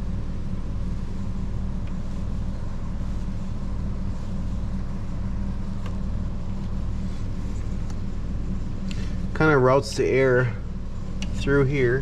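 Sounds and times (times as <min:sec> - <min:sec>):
low mechanical hum of a machine: 0:00.0 - 0:12.0.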